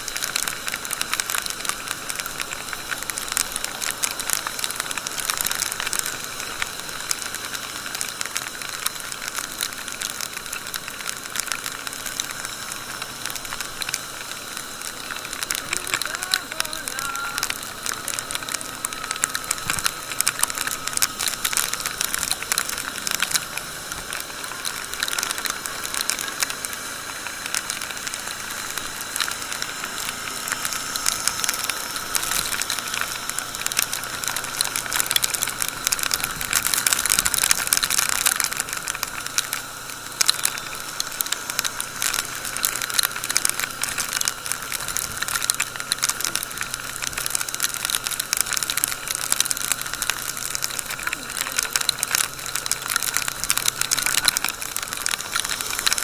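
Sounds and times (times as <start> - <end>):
rain drops crackling on camera: 0.0 - 56.0
wet road noise: 0.0 - 56.0.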